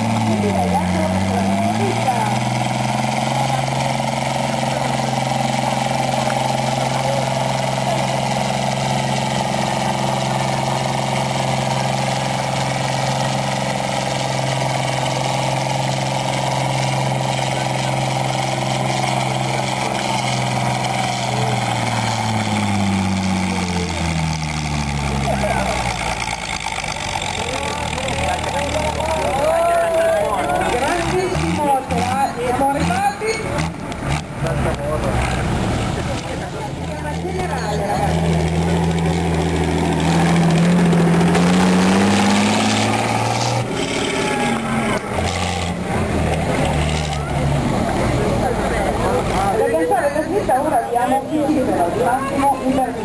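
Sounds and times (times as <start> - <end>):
tractor diesel engine revving: 0.0 - 53.0.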